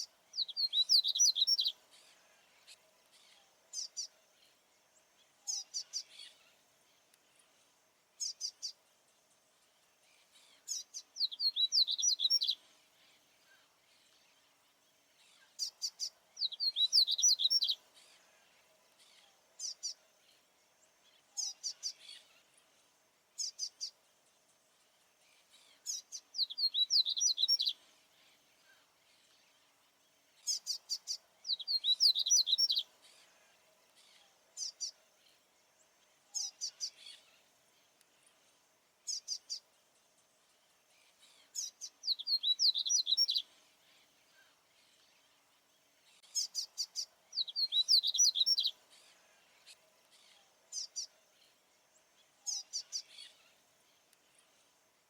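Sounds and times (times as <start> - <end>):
bird singing: 0.0 - 54.8
faint steady hum: 0.0 - 55.0.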